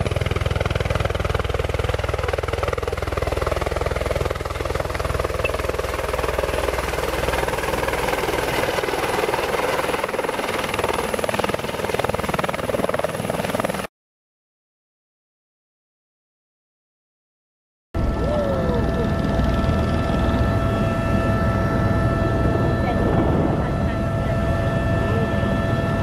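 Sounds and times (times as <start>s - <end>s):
helicopter rotor and turbine engine: 0.0s - 13.9s, 18.0s - 26.0s.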